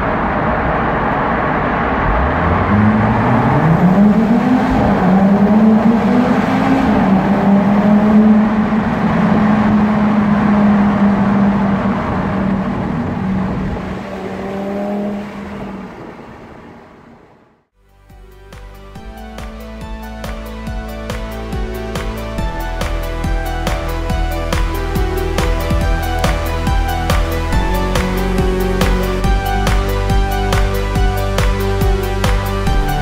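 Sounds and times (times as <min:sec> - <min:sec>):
car engine accelerating hard: 0:00.0 - 0:17.7, 0:19.0 - 0:33.0.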